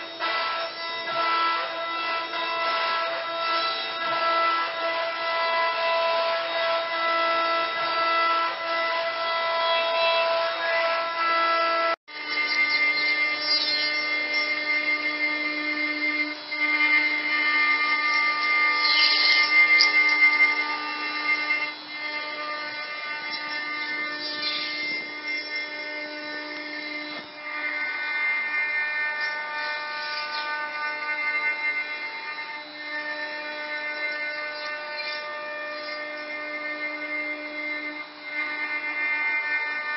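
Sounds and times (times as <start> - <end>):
bit rasping into wood: 0.0 - 39.9
router spindle high whine: 0.0 - 39.9
wood cutting noise: 0.0 - 39.9.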